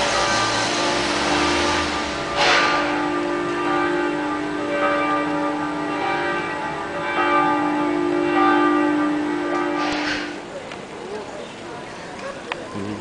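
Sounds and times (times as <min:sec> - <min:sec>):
church bells pealing: 0:00.0 - 0:11.9.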